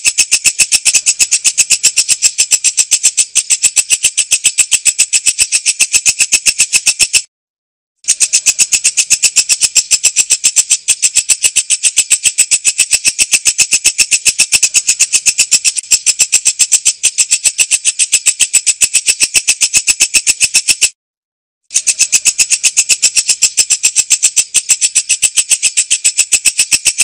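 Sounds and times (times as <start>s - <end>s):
katydid rattling clicks: 0.0s - 7.3s, 8.1s - 21.0s, 21.7s - 27.0s.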